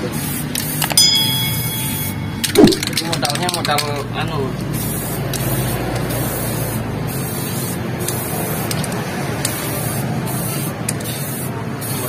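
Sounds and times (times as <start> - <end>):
spray paint can hissing: 0.0 - 3.8, 4.5 - 12.0.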